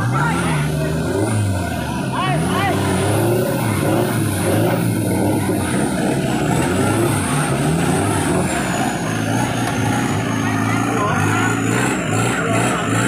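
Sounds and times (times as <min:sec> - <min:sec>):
truck engines revving in mud: 0:00.0 - 0:13.0.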